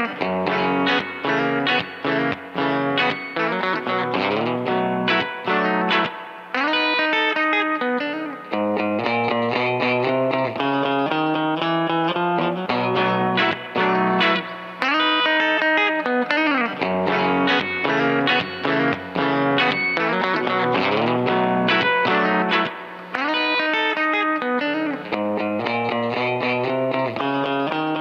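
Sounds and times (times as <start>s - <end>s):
electric guitar country run: 0.0s - 28.0s.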